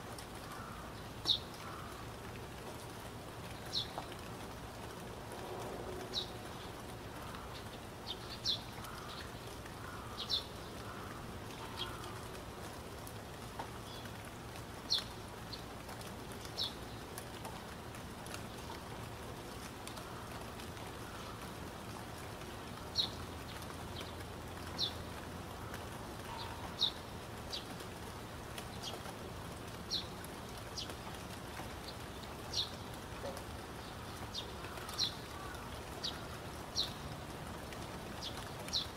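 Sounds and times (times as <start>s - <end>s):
rain-like hiss: 0.0s - 38.9s.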